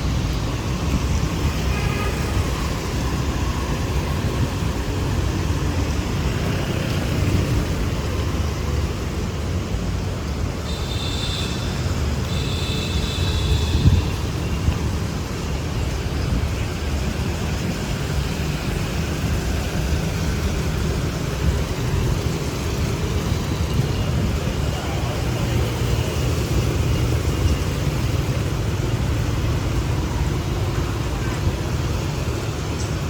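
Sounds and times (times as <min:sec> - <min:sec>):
motorbikes and cars passing: 0:00.0 - 0:33.0.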